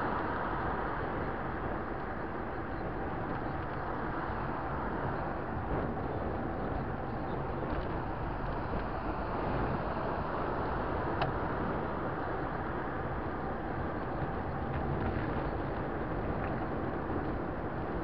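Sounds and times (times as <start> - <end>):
road traffic noise: 0.0 - 18.0
wind rushing over microphone: 0.0 - 18.0.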